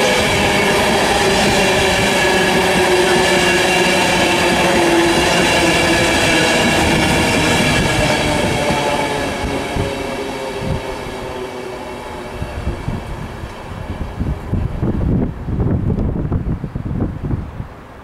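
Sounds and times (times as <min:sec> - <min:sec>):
train wheels rushing on rail: 0:00.0 - 0:16.8
wind buffeting microphone: 0:00.0 - 0:18.0.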